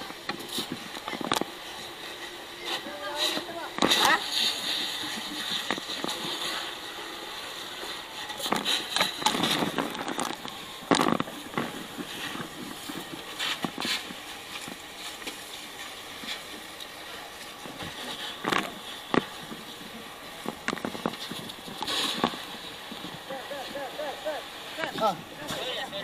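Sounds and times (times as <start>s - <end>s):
fire knocking and crackling: 0.0s - 1.8s, 2.6s - 7.1s, 7.8s - 23.8s
fire hose spraying water: 0.0s - 26.0s.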